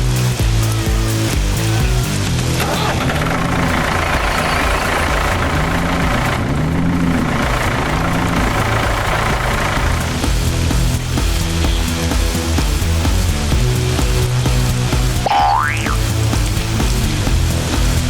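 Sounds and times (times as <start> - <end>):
tractor engine revving: 0.0 - 18.0.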